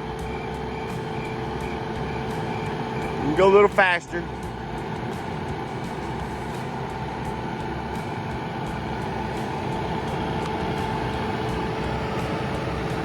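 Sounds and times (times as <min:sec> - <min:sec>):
excavator diesel engine running: 0:00.0 - 0:13.0
hydraulic whine: 0:00.0 - 0:13.0.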